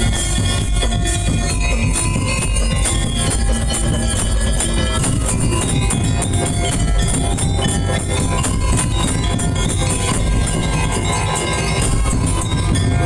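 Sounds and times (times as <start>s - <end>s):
heavy drums: 0.0s - 13.0s
jingling metal percussion: 0.0s - 13.0s
loud percussion ensemble: 0.0s - 13.0s.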